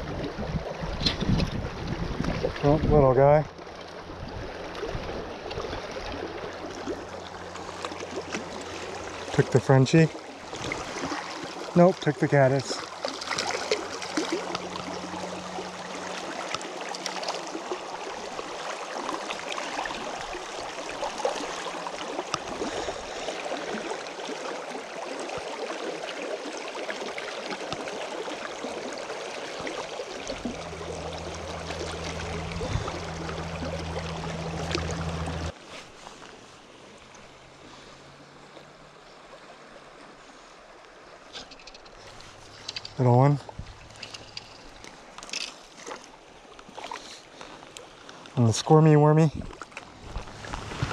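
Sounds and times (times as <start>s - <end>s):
creek water rushing: 0.0s - 50.9s.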